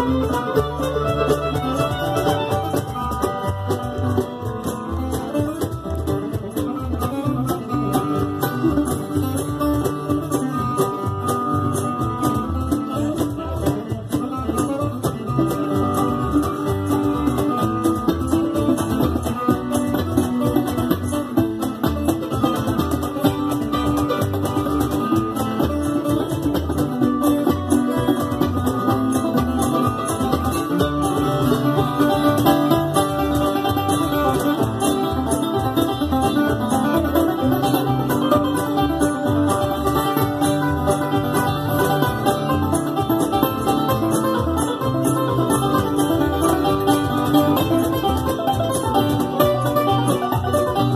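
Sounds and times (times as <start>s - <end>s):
acoustic guitar: 0.0s - 50.9s
banjo picking: 0.0s - 50.9s
upright bass: 0.0s - 50.9s.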